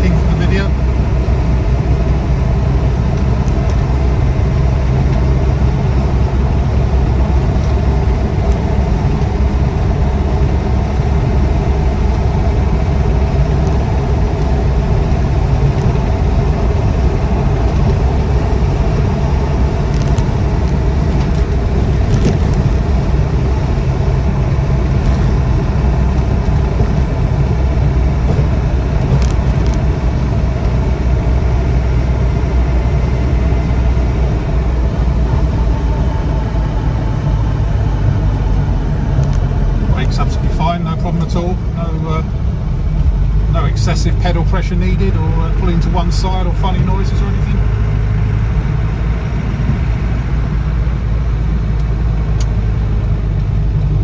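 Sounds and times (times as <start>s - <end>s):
diesel engine cruising: 0.0s - 54.0s
road and wind noise: 0.0s - 54.0s.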